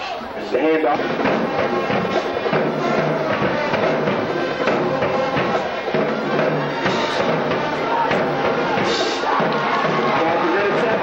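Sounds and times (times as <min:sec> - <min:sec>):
drums and percussion beat: 0:01.0 - 0:11.0.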